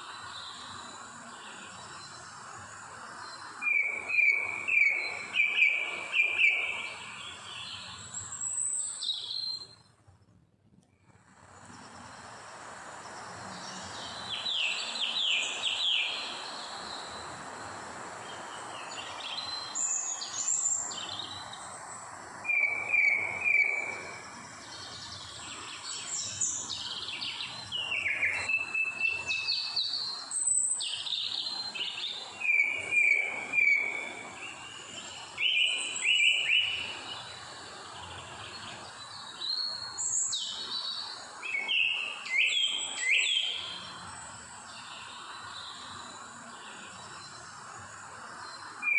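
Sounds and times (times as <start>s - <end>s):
steady background hiss: 0.0s - 48.9s
birds chirping and singing: 3.1s - 9.8s, 13.3s - 17.4s, 18.2s - 21.8s, 22.4s - 47.6s.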